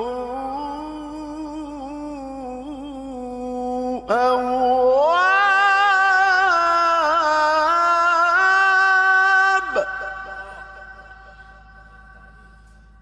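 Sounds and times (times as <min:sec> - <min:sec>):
man reciting melodically: 0:00.0 - 0:12.7.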